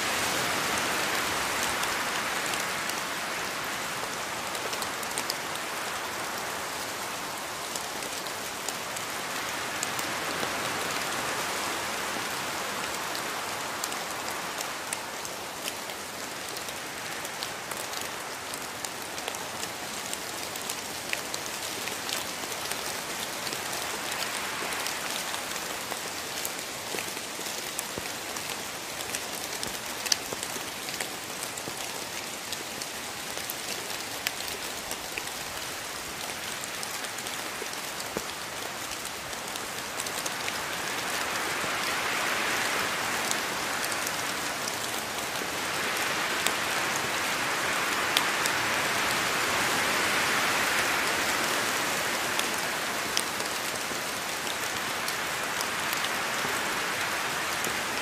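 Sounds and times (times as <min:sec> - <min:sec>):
steady rain with drop ticks: 0:00.0 - 0:58.0.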